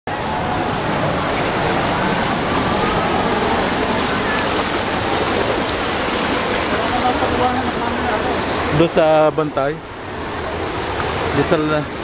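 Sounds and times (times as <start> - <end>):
distant crowd voices: 0.1 - 12.0
rushing water in wave pool: 0.1 - 12.0.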